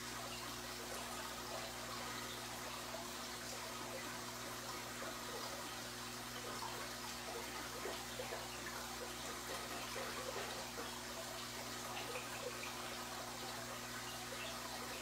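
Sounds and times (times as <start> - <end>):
aquarium air stones bubbling: 0.0 - 15.0
low steady hum: 0.0 - 15.0.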